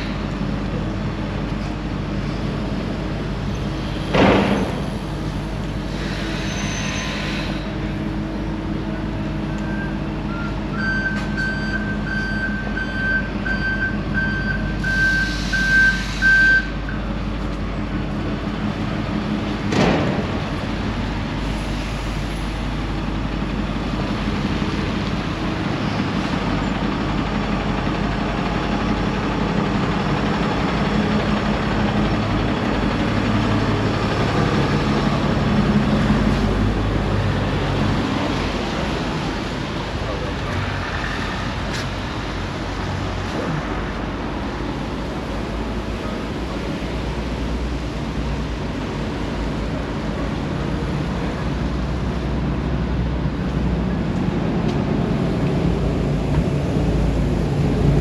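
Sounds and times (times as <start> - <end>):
diesel engine idling: 7.6 - 58.0.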